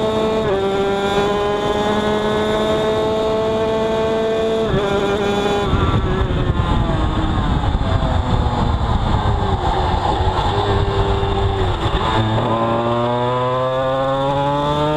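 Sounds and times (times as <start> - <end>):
wind rush on microphone: 0.0 - 14.9
two-stroke motorcycle engine: 1.5 - 14.9.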